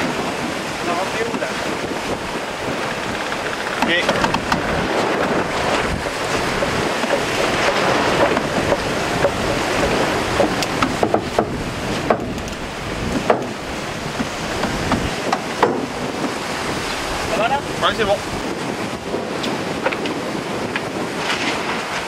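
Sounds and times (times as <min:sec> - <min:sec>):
boat knocks and clicks: 0:00.0 - 0:22.0
water spray and hull wash: 0:00.0 - 0:22.0
wind on microphone: 0:00.0 - 0:22.0.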